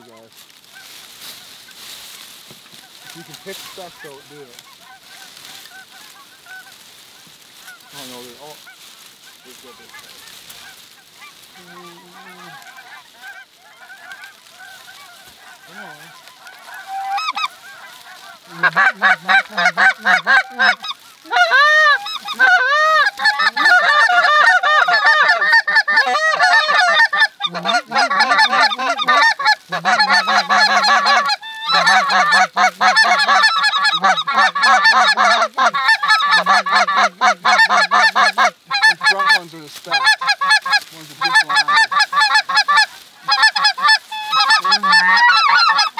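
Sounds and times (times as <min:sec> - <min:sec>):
geese honking in flight: 0:00.0 - 0:45.9.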